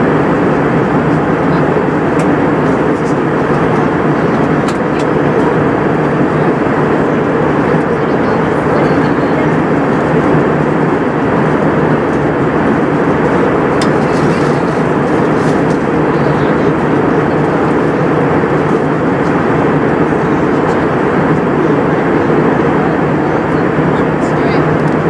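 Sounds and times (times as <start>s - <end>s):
cabin airflow: 0.0s - 25.0s
jet engine sound: 0.0s - 25.0s.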